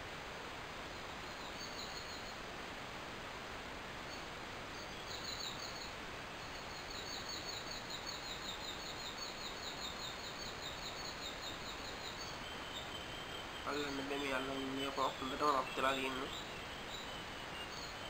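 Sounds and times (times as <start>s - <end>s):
background hiss: 0.0s - 18.0s
bird chirping: 0.9s - 2.4s, 4.0s - 18.0s.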